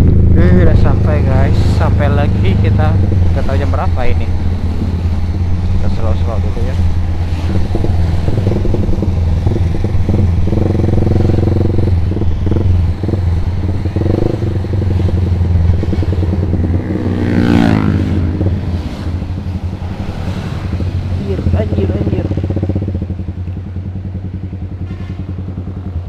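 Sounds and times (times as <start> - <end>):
motorcycle exhaust drone: 0.0 - 26.0.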